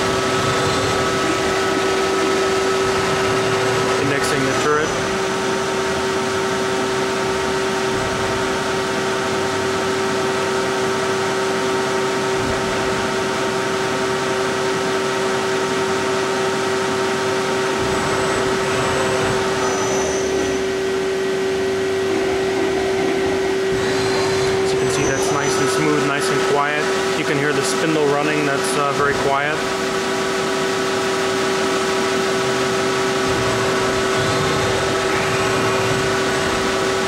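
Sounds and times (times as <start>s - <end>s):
constant machine whine: 0.0s - 37.0s
lathe spindle humming: 0.0s - 37.0s.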